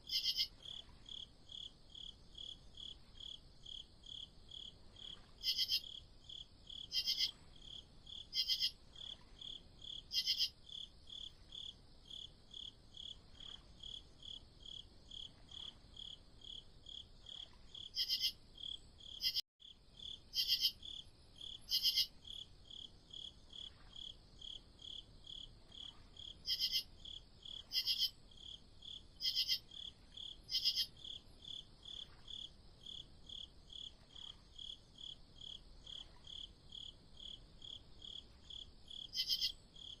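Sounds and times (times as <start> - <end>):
louder higher cricket chirping: 0.0 - 13.2, 20.0 - 40.0
crickets chirping: 0.0 - 40.0.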